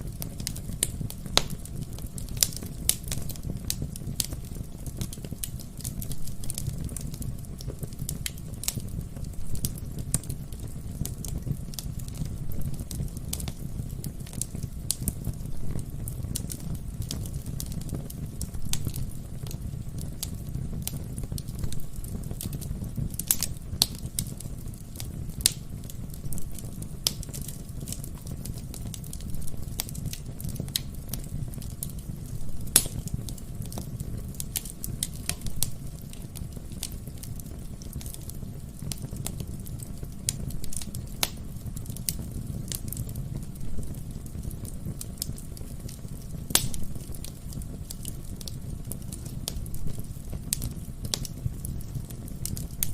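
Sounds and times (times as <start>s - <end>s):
burning logs popping and snapping: 0.0s - 52.9s
low rumble of flames: 0.0s - 52.9s.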